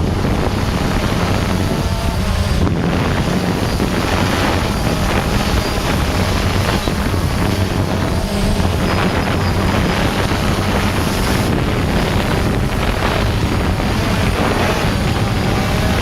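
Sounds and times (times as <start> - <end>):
drone propellers humming: 0.0 - 16.0
wind buffeting microphone: 0.0 - 16.0.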